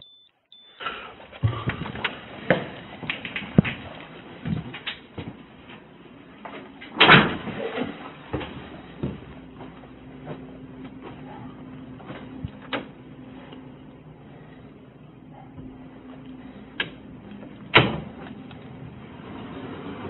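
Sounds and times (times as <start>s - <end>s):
faint steady hum: 0.0s - 19.8s.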